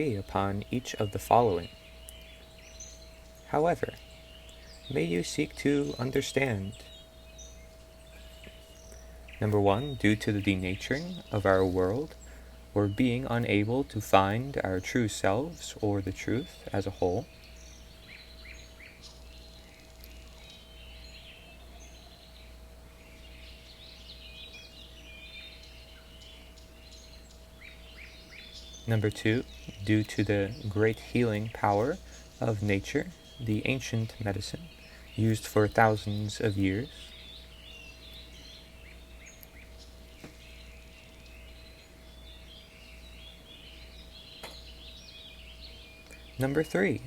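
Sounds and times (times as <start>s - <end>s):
faint steady hum: 0.0s - 47.0s
small birds chirping: 0.0s - 47.0s.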